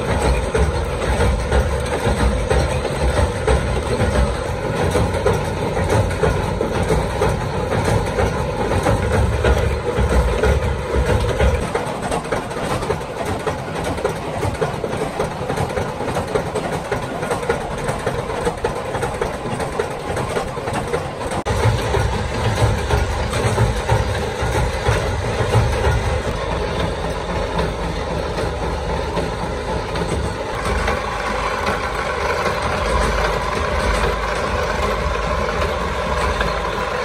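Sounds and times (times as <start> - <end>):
machinery clatter: 0.0 - 37.0
machinery hum: 0.0 - 37.0.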